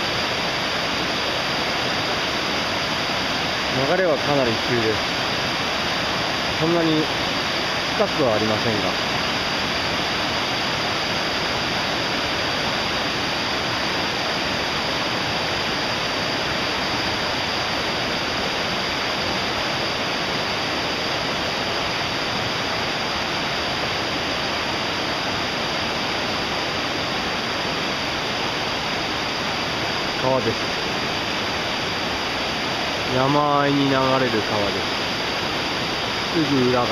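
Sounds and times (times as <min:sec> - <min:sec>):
river rushing over rocks: 0:00.0 - 0:36.9.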